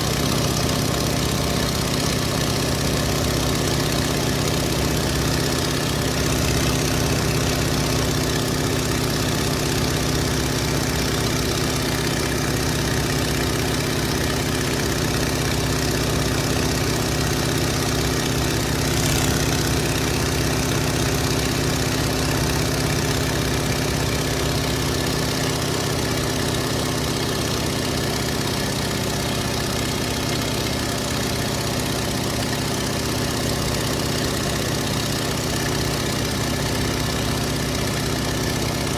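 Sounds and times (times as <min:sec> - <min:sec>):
radial engine idling: 0:00.0 - 0:38.9.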